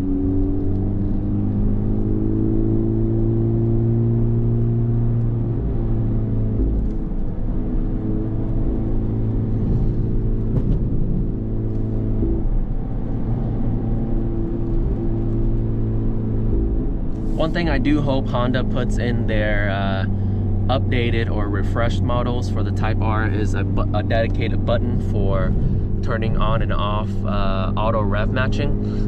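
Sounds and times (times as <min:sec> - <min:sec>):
car engine hum inside cabin: 0:00.0 - 0:29.0
road noise: 0:00.0 - 0:29.0.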